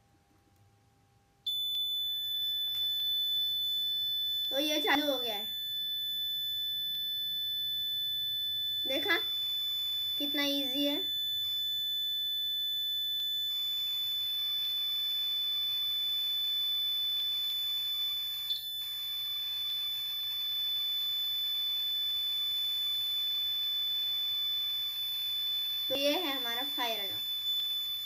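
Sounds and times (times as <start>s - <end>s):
piezo buzzer high-pitched tone: 1.5s - 28.0s.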